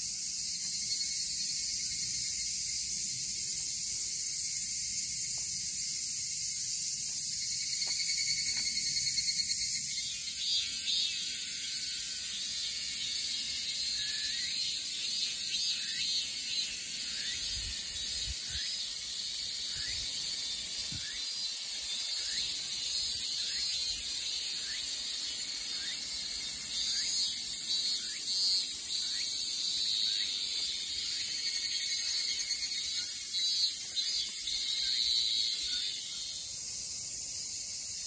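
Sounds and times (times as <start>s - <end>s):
insects buzzing in trees: 0.0s - 38.0s.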